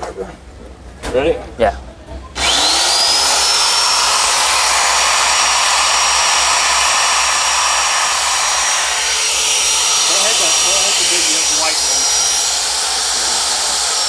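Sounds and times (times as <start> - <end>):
drill whining: 2.4 - 14.0
loud hiss: 2.4 - 14.0.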